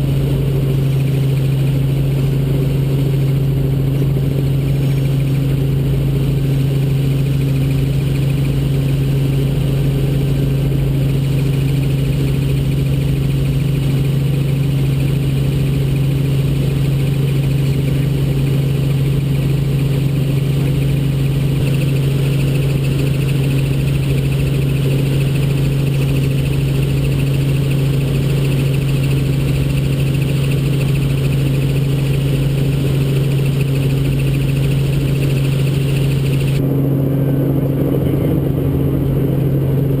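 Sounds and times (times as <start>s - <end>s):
helicopter engine and rotors droning: 0.0s - 40.0s.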